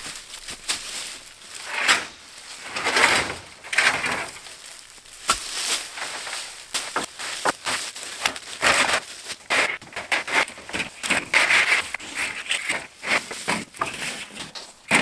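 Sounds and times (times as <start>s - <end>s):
wooden boards crackling and knocking: 0.0s - 15.0s.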